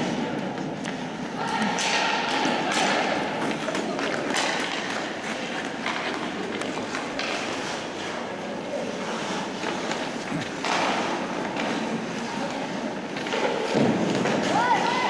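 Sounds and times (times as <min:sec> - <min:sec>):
clacks of sticks and puck: 0:00.0 - 0:15.0
skate blades scraping ice: 0:01.8 - 0:15.0.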